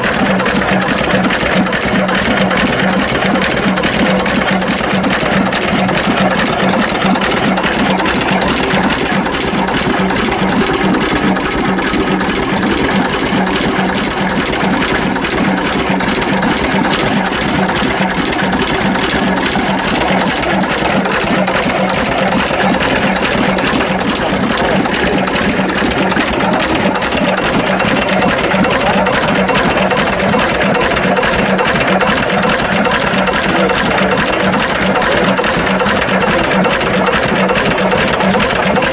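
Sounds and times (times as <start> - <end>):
stationary engine running: 0.0 - 38.9.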